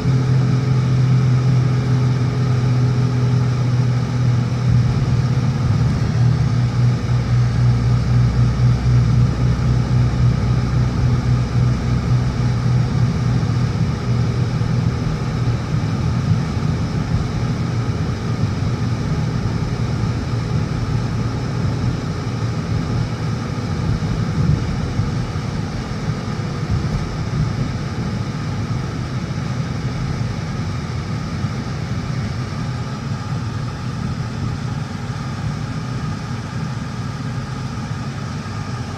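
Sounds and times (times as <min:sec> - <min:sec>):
car engine and road drone: 0:00.0 - 0:38.9.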